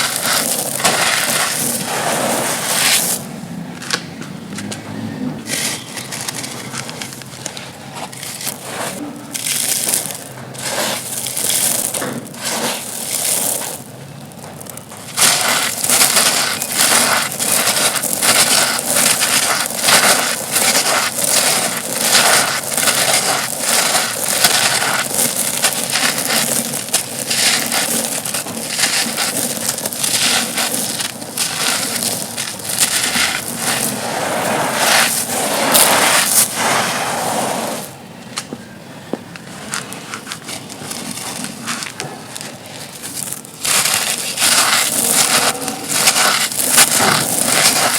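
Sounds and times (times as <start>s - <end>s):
stony chunks crunching: 0.0s - 36.8s, 37.8s - 47.9s.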